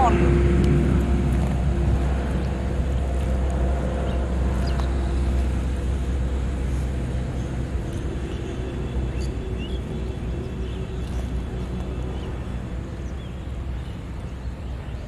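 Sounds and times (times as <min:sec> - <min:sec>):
broad outdoor hiss: 0:00.0 - 0:15.0
low rumble: 0:00.0 - 0:15.0.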